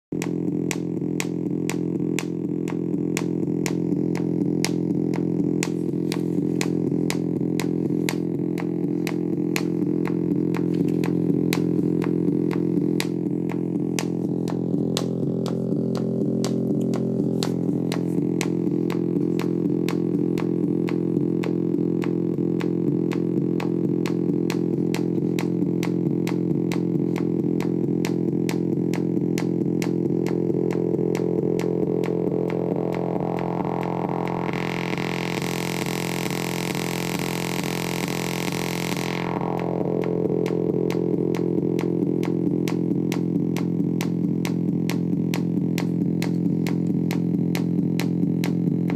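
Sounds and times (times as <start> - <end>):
regular clicking pulse: 0.1 - 48.9
synthesizer drone: 0.1 - 48.9.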